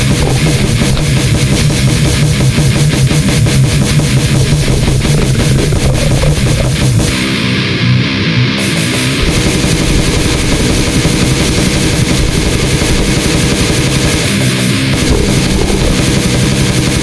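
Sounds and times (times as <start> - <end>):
distorted guitar and drums: 0.0 - 17.0.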